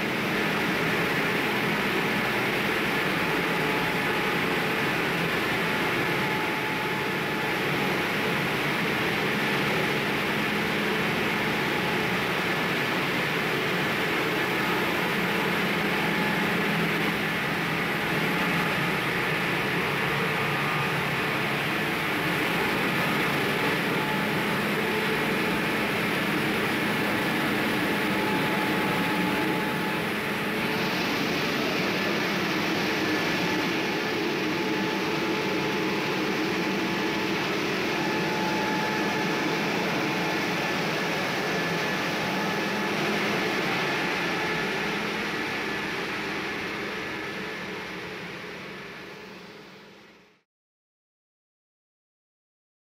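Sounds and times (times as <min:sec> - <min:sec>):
mill machinery noise: 0:00.0 - 0:49.8
steady machine whine: 0:00.0 - 0:50.4.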